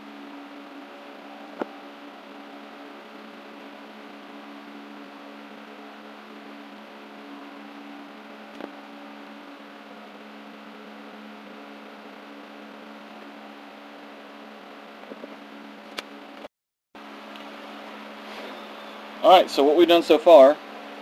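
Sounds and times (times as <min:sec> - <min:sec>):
mechanical hum: 0:00.0 - 0:21.0.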